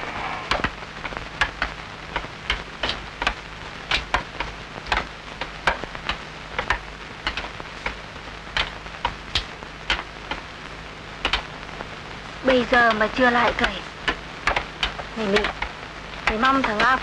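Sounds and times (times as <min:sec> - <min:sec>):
sharp crackles and clicks: 0:00.0 - 0:17.0
soft steady hiss: 0:00.0 - 0:17.0.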